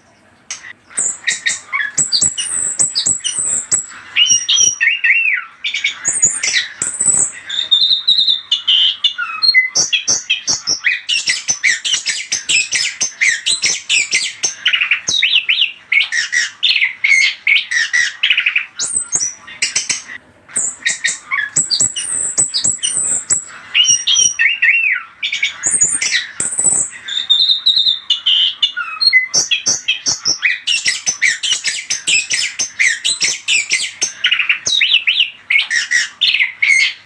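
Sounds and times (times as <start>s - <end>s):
thrush singing fast whistles: 0.9s - 37.0s.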